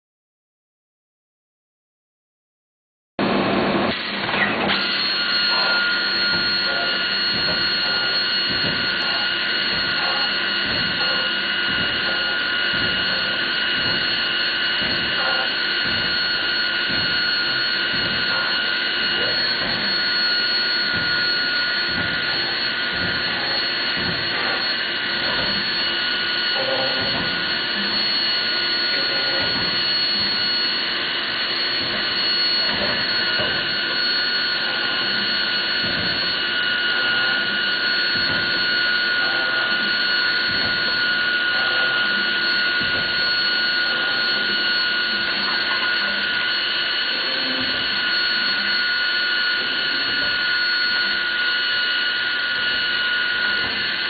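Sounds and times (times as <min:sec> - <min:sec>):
router spindle high whine: 0:03.2 - 0:54.0.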